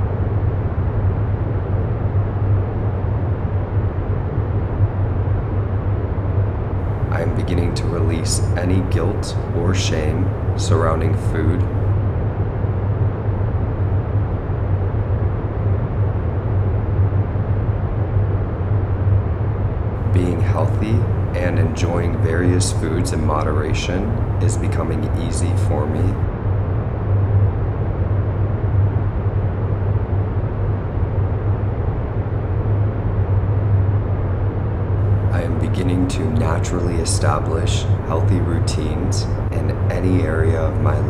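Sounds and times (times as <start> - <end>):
low rumbling noise with hum: 0.0 - 41.0.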